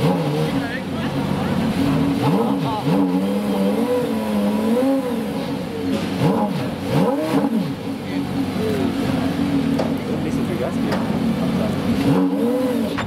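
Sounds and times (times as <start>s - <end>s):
car engine idling: 0.0s - 13.0s
engine throttle revs: 0.0s - 13.0s.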